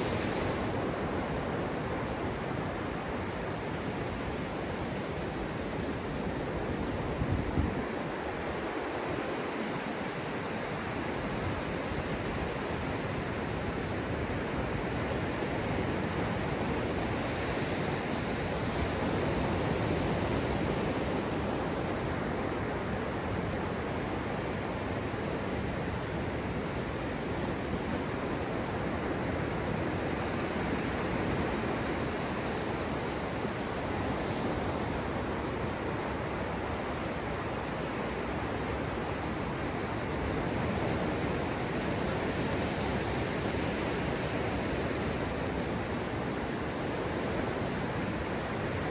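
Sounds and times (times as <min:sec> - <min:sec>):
small waves breaking on sand: 0:00.0 - 0:48.9.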